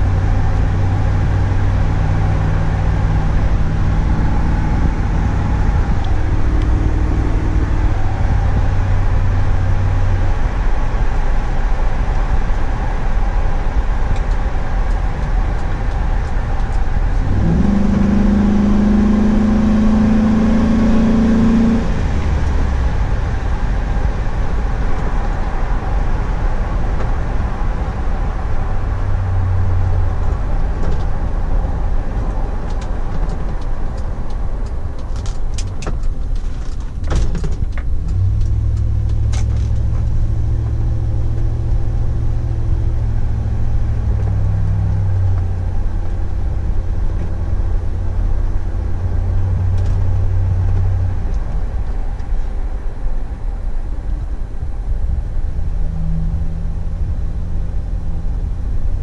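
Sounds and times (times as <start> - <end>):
car engine running: 0.0 - 59.0
tyre and wind noise: 0.0 - 59.0.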